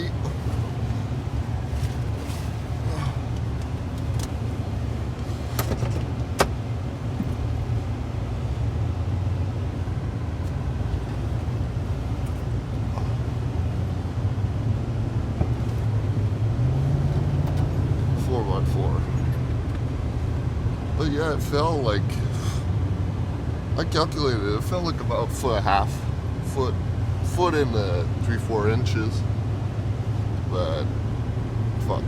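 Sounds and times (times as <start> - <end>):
engine and road rumble: 0.0 - 32.0.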